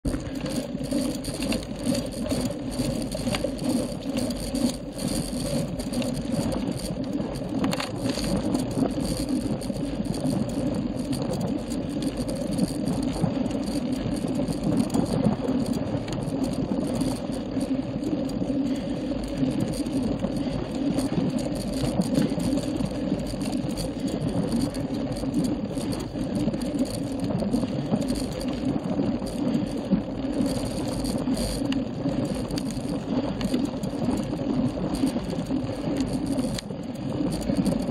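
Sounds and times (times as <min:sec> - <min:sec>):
bicycle tyres and frame rattling: 0:00.0 - 0:37.9.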